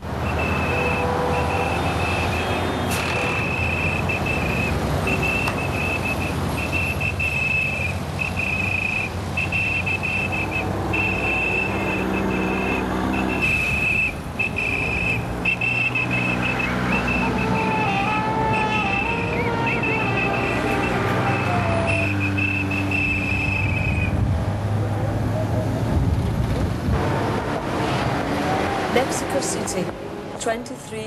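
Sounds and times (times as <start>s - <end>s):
traffic rumble: 0.0s - 31.0s.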